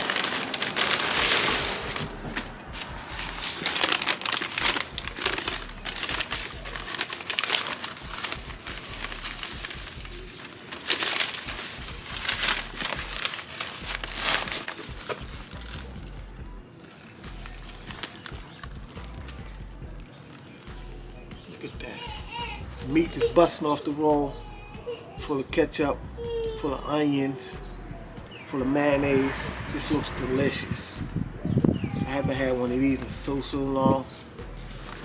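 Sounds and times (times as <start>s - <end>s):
sandwich wrapper crinkling: 0.0s - 25.4s, 31.8s - 35.0s.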